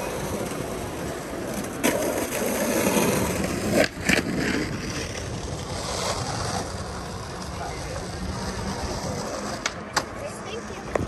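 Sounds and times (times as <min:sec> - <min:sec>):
bicycle rolling on pavement: 0:00.0 - 0:11.0.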